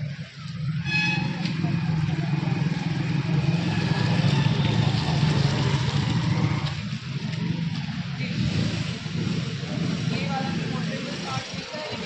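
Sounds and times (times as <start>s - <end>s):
road traffic engines: 0.0s - 12.0s.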